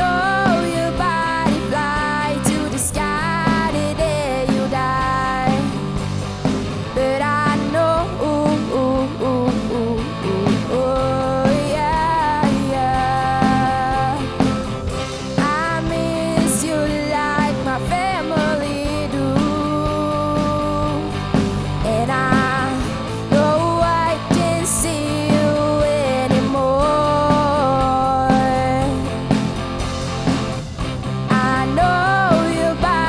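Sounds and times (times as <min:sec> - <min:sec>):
girl singing: 0:00.0 - 0:05.8, 0:07.0 - 0:14.3, 0:15.4 - 0:21.2, 0:21.8 - 0:29.4, 0:31.3 - 0:33.0
bass guitar: 0:00.0 - 0:33.0
drums: 0:00.0 - 0:33.0
electric guitars: 0:00.0 - 0:33.0.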